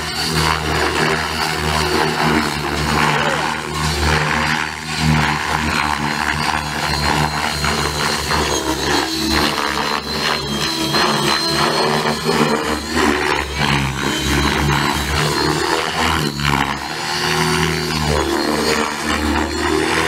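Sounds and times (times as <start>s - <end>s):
rc helicopter motor whine: 0.0s - 20.0s.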